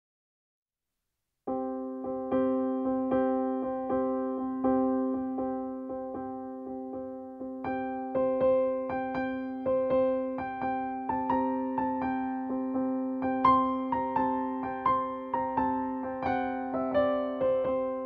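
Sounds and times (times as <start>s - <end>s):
gentle piano music: 1.5s - 18.0s.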